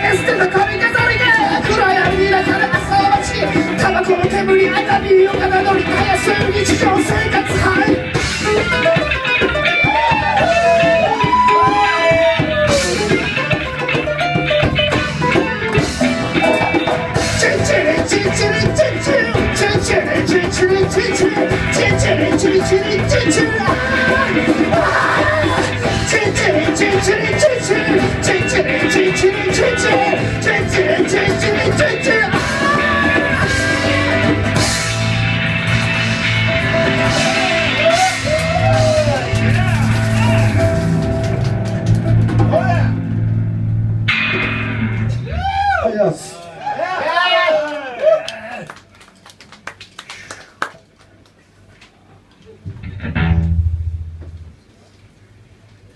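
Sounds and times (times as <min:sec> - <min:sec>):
drum kit: 0:00.0 - 0:45.8, 0:52.7 - 0:54.6
rock band playing live: 0:00.0 - 0:45.8, 0:52.7 - 0:54.6
electric guitar: 0:00.0 - 0:45.9, 0:52.4 - 0:54.6.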